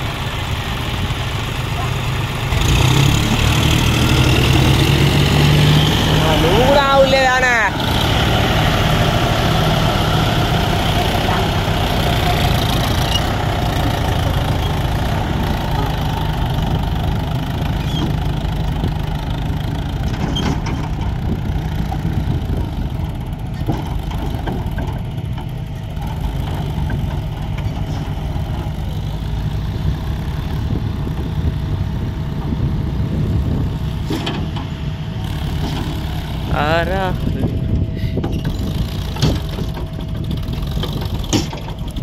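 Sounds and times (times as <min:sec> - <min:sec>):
tractor engines under load: 0:00.0 - 0:42.0.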